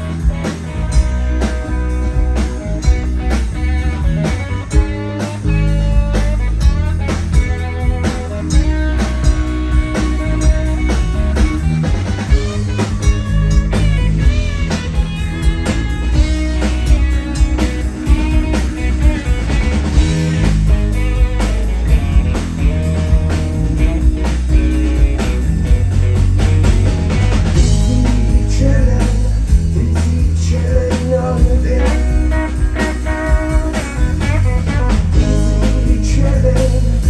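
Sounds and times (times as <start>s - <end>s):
bass guitar: 0.0s - 37.0s
drum kit steady beat: 0.0s - 37.0s
electric guitar lead: 0.0s - 37.0s.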